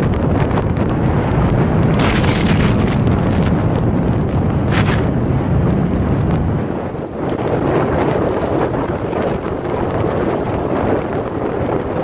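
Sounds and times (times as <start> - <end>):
blizzard wind buffeting microphone: 0.0 - 12.0.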